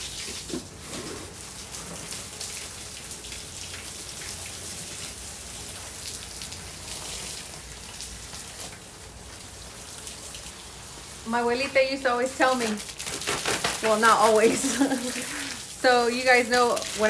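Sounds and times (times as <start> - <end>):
garden hose spraying water: 0.0 - 17.0.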